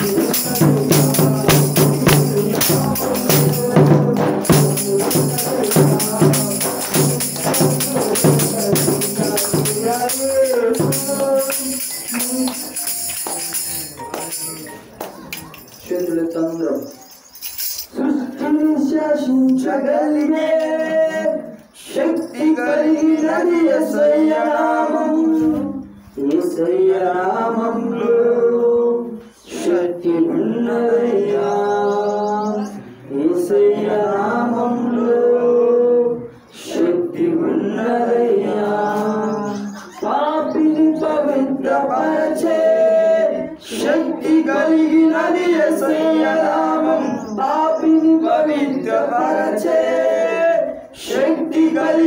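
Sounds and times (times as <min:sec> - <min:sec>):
voices singing long notes: 0:00.0 - 0:15.0, 0:15.9 - 0:52.0.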